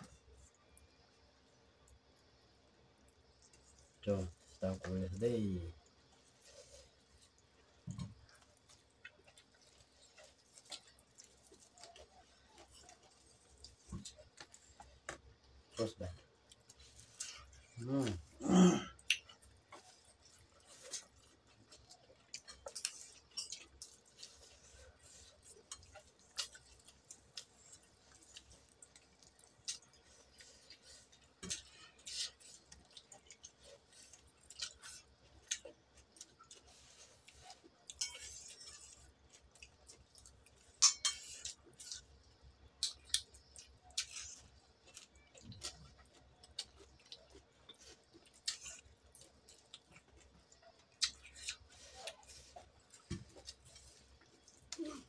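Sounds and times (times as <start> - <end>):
wet chewing and lip-smacking: 5.8 - 15.7, 19.0 - 55.0.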